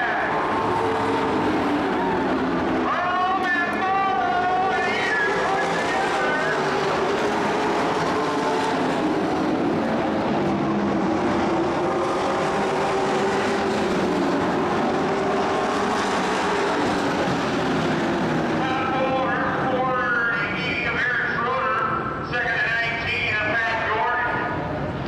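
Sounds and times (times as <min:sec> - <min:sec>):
racing truck engines droning: 0:00.0 - 0:25.0.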